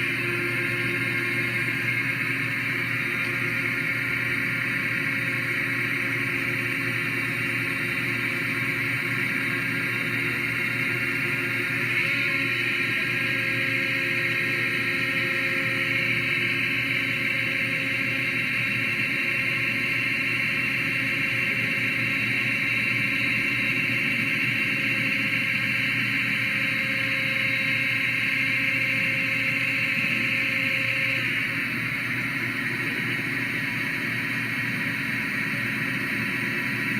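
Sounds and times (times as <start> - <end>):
lathe machine whine: 0.0 - 36.9.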